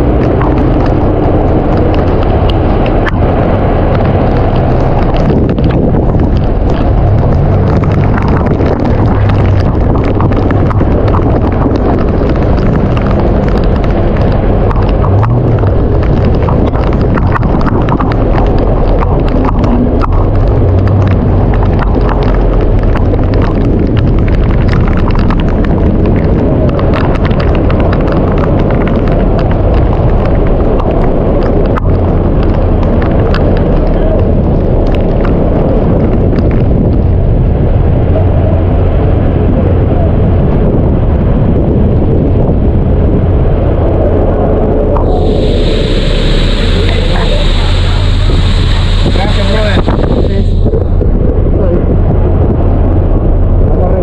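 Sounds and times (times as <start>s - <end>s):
patter of raindrops: 0.0s - 54.0s
wind buffeting microphone: 0.0s - 54.0s.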